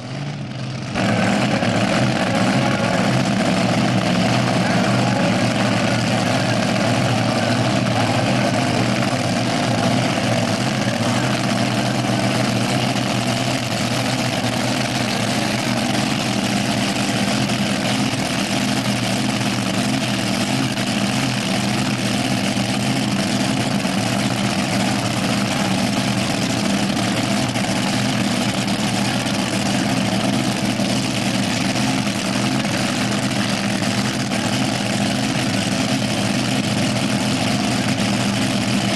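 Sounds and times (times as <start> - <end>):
dragster engine idling: 0.0 - 38.9.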